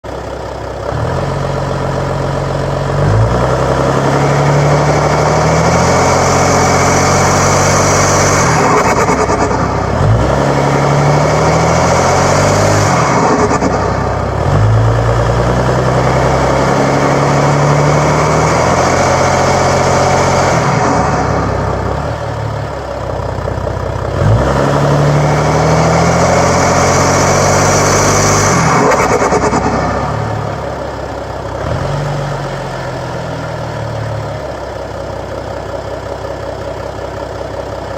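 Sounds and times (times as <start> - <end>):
diesel car engine accelerating: 0.0 - 37.9.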